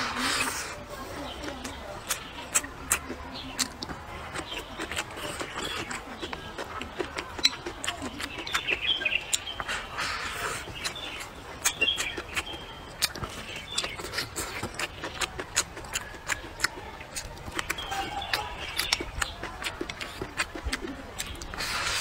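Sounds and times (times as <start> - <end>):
person chewing food: 1.4 - 22.0.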